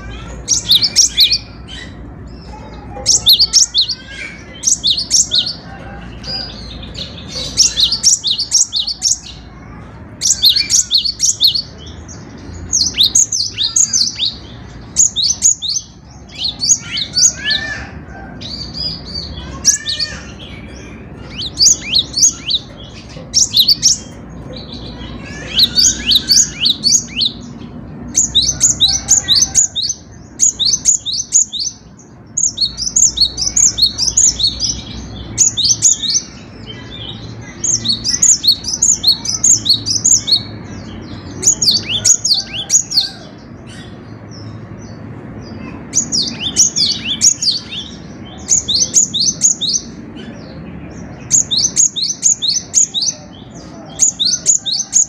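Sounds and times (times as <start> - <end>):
bird singing rapid repeated notes: 0.0 - 55.0.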